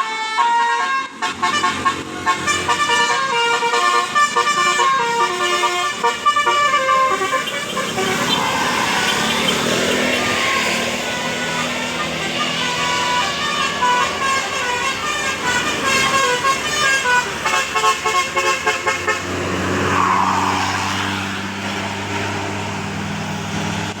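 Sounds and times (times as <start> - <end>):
musical air horn melody: 0.0 - 19.5
bus engine droning: 0.0 - 24.0.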